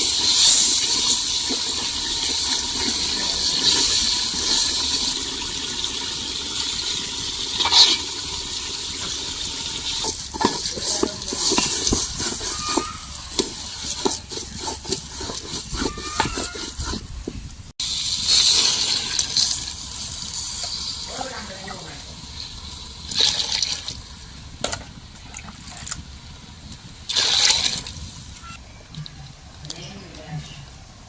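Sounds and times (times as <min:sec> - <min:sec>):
water pouring and splashing: 0:00.0 - 0:28.4.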